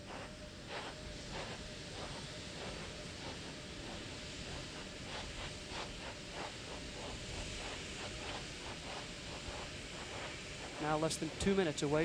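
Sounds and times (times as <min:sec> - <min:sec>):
old recording hiss: 0:00.0 - 0:12.0.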